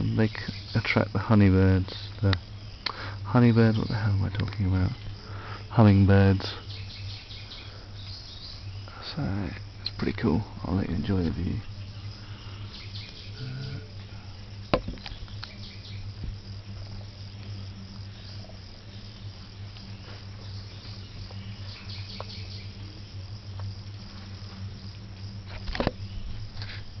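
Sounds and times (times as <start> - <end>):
insects chirring: 0.0 - 27.0
low steady hum: 0.0 - 27.0.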